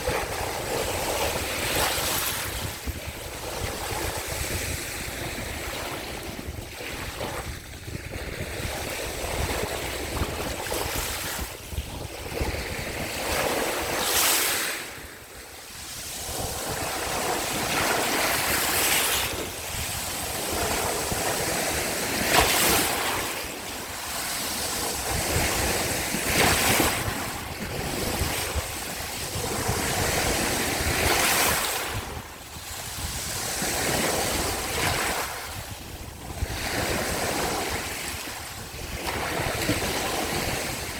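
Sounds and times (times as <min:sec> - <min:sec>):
small waves lapping on shore: 0:00.0 - 0:40.9
wind noise on microphone: 0:00.0 - 0:40.9.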